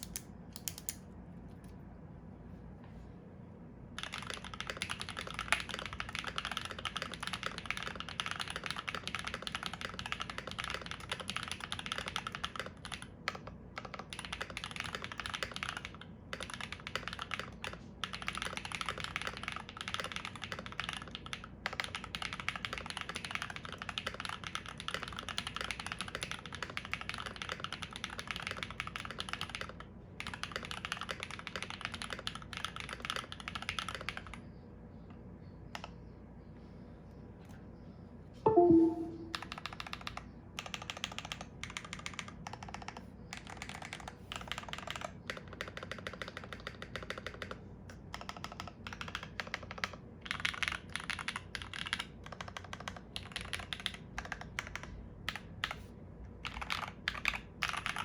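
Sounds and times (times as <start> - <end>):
mechanical keyboard typing: 0.0 - 1.0, 4.0 - 34.4, 38.5 - 55.8, 56.4 - 58.0.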